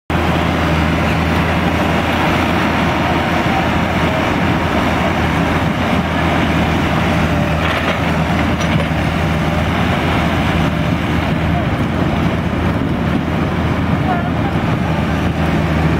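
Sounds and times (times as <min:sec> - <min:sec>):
excavator diesel engine droning: 0:00.1 - 0:15.9.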